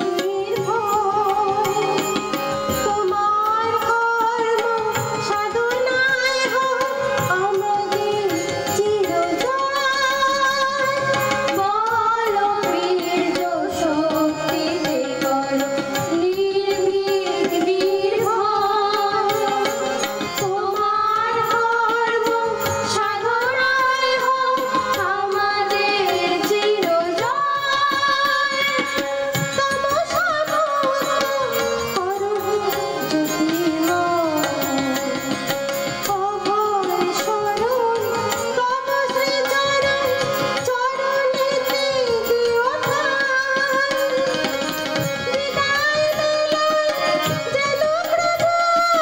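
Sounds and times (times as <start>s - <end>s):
harmonium chords: 0.0s - 49.0s
tabla hand-drum strokes: 0.0s - 49.0s
woman singing: 0.0s - 49.0s.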